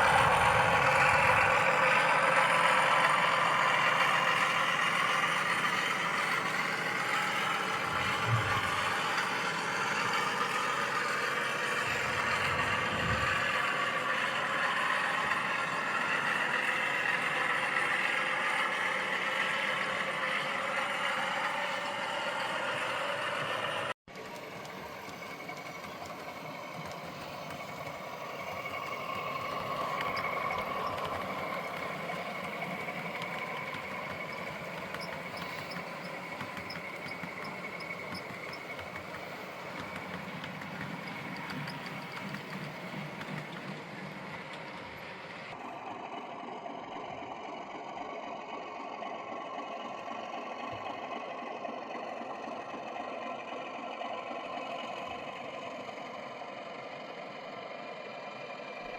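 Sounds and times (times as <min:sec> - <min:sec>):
diesel engine sound from small speaker: 0:00.0 - 0:58.9.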